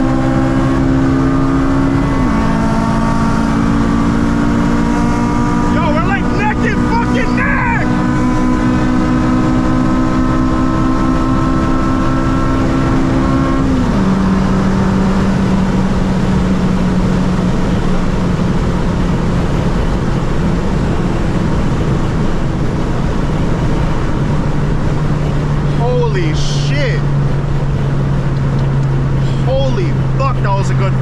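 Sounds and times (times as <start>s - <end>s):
car engine at high revs: 0.0s - 31.0s
road and wind noise: 0.0s - 31.0s.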